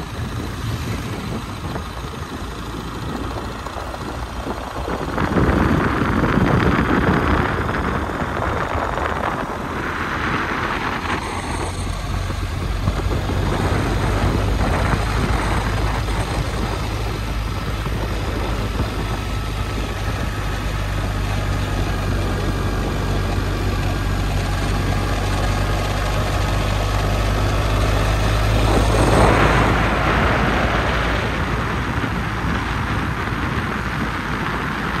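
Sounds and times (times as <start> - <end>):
road and wind noise: 0.0 - 35.0
vehicle engine running: 0.0 - 35.0.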